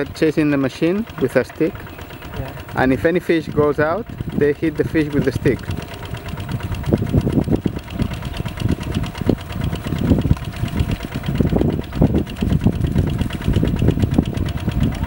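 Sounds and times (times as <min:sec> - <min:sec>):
diesel engine knocking: 0:00.0 - 0:15.0.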